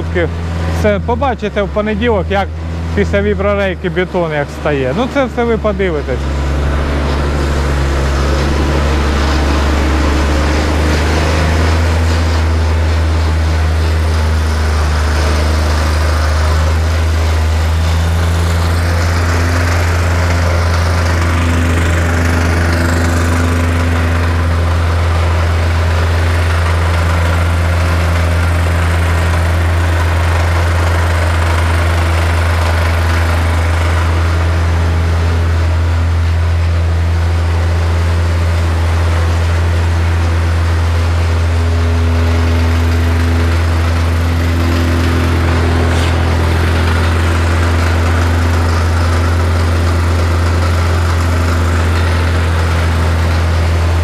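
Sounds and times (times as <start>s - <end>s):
plate compactor humming: 0.0s - 54.0s.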